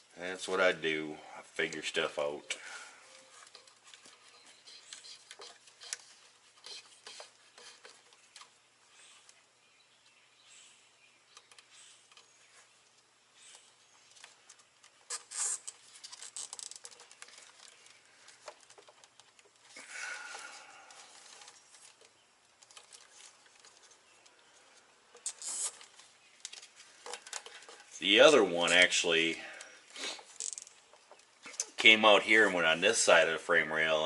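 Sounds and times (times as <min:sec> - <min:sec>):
hands rustling wiring: 0:00.0 - 0:09.6, 0:11.2 - 0:33.2.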